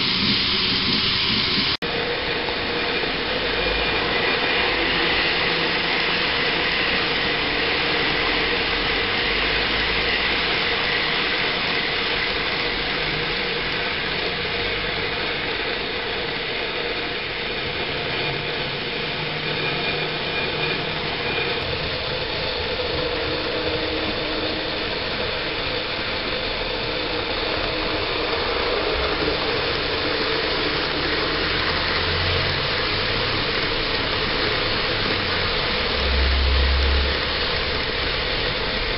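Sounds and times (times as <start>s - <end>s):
model train whirring on track: 0.0s - 38.9s.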